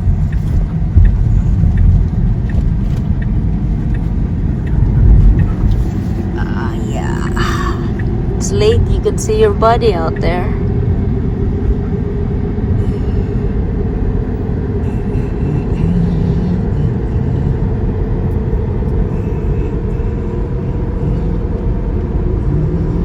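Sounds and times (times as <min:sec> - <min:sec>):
road and tyre rumble: 0:00.0 - 0:23.0.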